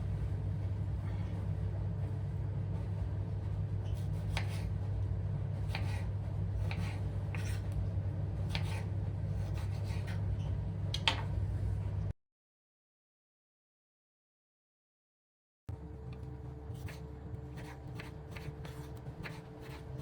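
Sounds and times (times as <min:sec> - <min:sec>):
steady low hum: 0:00.0 - 0:12.2, 0:15.7 - 0:20.0.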